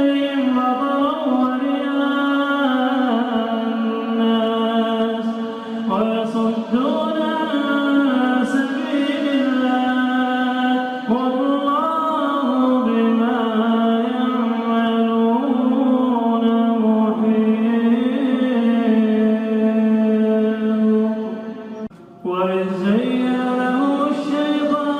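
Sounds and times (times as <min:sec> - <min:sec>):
man chanting recitation: 0:00.0 - 0:24.9.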